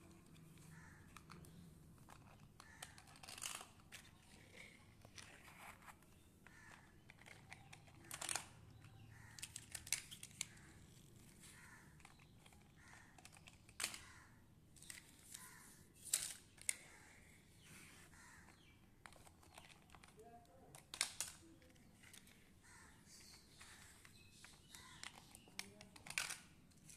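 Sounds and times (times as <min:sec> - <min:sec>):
plastic toys clicking and clattering: 0:00.0 - 0:17.1, 0:18.4 - 0:26.9.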